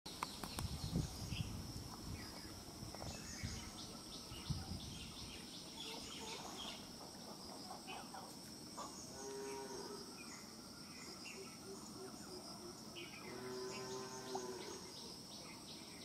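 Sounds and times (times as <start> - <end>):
high insect drone: 0.1 - 16.0
small birds chirping: 0.1 - 16.0.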